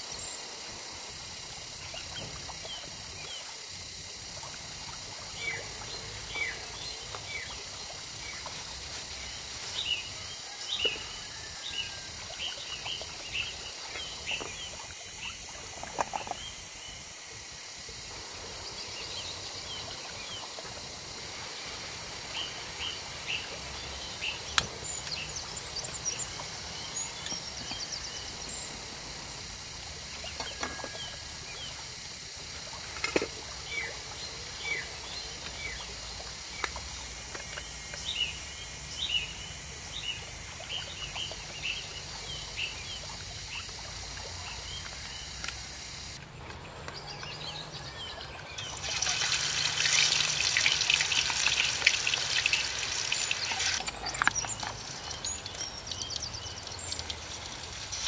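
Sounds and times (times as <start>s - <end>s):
high-pitched outdoor hiss: 0.0s - 58.0s.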